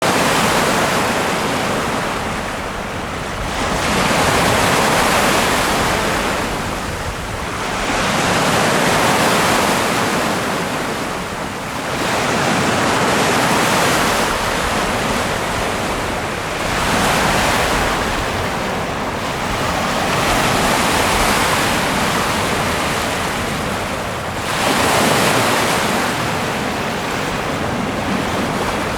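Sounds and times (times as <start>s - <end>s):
ocean waves breaking: 0.0s - 28.9s.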